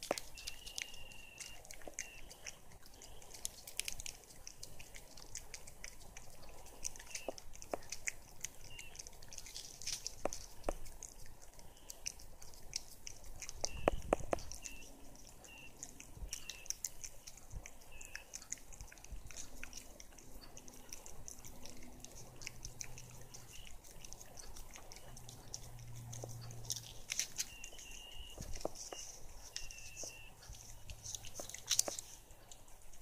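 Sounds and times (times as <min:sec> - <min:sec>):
cat licking with wet tongue clicks: 0:00.0 - 0:33.0.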